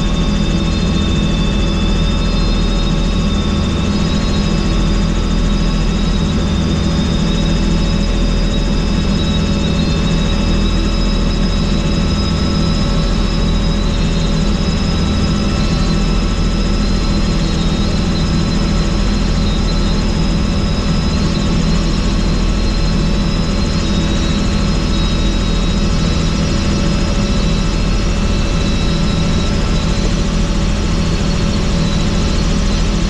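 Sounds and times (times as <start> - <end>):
helicopter engine and rotor: 0.0 - 33.0.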